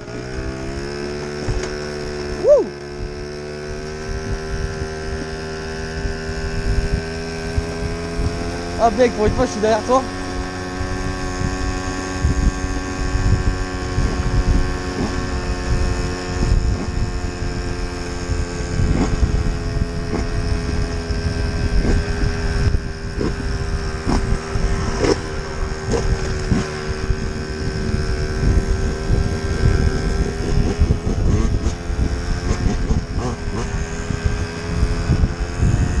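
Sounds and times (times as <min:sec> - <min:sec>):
motorbike engine running: 0:00.0 - 0:36.0
wind buffeting microphone: 0:00.0 - 0:36.0.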